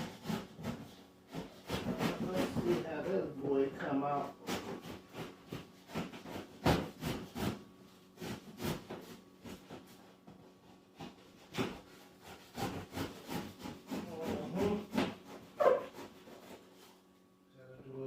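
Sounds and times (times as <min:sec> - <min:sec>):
blade cutting cardboard: 0:00.0 - 0:17.0.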